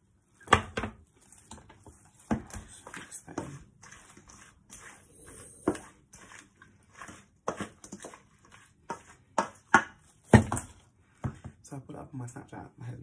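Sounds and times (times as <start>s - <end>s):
spoon stirring wet food: 0.0s - 11.6s.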